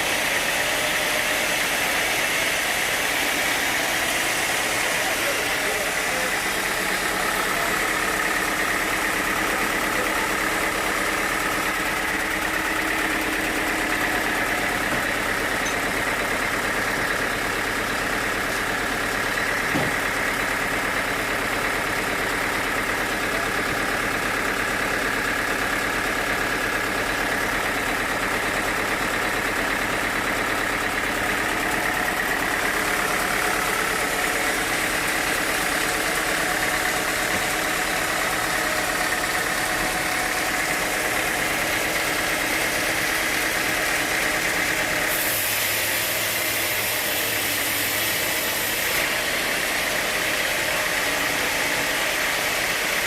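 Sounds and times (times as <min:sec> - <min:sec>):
sawmill machinery drone: 0:00.0 - 0:53.0.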